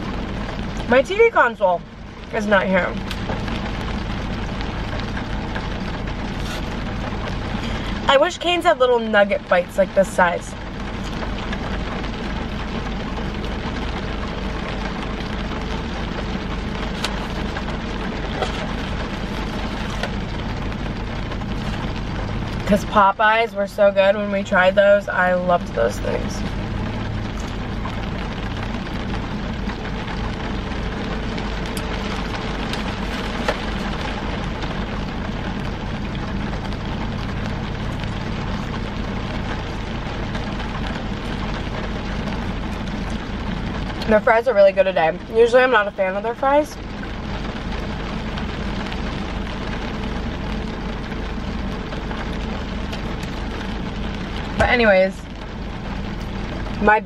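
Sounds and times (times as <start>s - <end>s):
low steady hum: 0.0s - 57.0s
rain on car roof: 0.0s - 57.0s.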